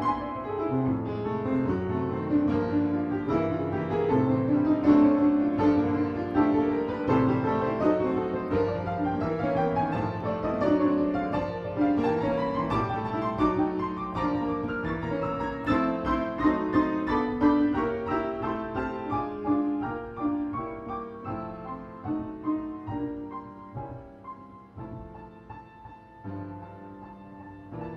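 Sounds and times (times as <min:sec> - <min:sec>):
solo piano playing: 0:00.0 - 0:27.9.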